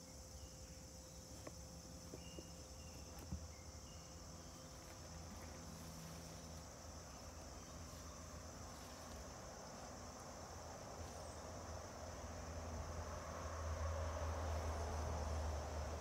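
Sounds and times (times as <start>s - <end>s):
insect chorus: 0.0s - 16.0s.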